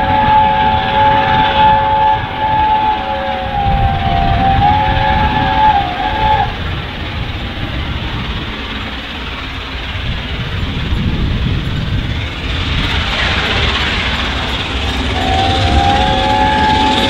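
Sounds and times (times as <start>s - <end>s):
steam locomotive exhaust roar: 0.0s - 17.0s.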